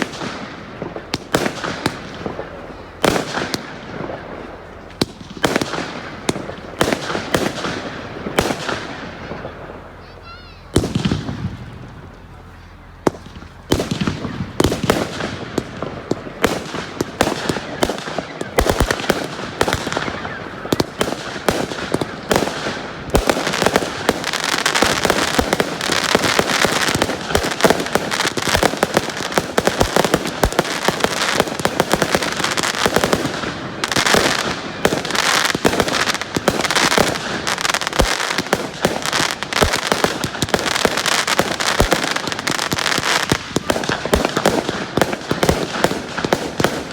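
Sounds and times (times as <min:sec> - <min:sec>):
fireworks bangs: 0:00.0 - 0:46.9
fireworks crackling: 0:00.0 - 0:46.9.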